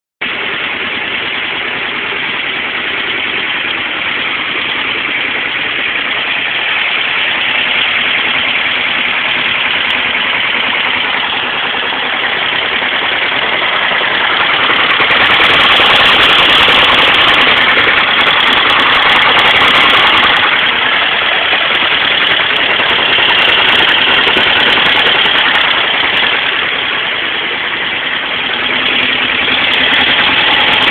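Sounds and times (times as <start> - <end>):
motorcycle engine running: 0.2 - 30.9.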